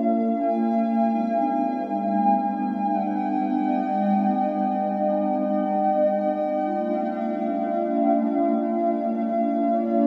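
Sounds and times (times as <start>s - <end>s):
ambient music sustained chords: 0.0s - 10.0s.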